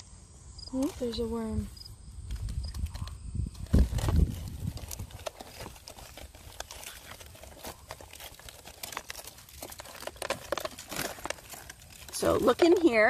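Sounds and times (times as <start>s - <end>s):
seeds crackling and clicking: 0.6s - 13.0s.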